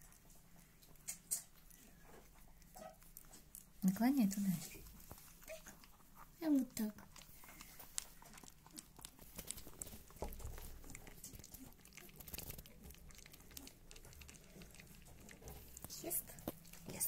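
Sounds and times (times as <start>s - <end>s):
puppy licking and smacking: 0.0s - 17.0s.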